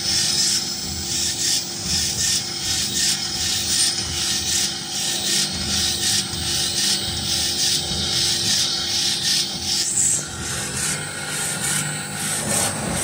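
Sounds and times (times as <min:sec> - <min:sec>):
machine rasping hiss: 0:00.0 - 0:13.0.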